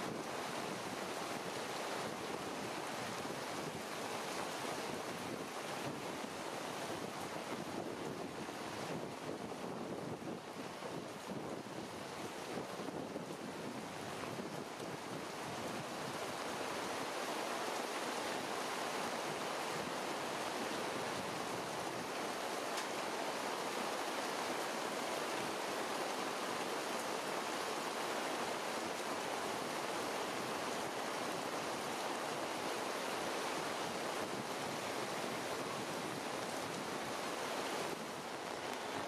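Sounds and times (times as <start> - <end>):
rain falling on foliage: 0.0 - 39.0.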